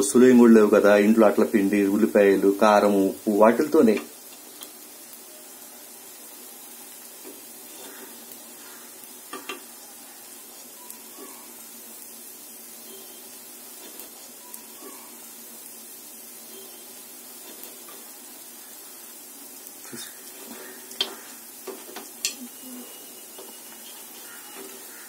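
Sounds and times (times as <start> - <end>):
batter frying in oil: 0.0 - 25.0.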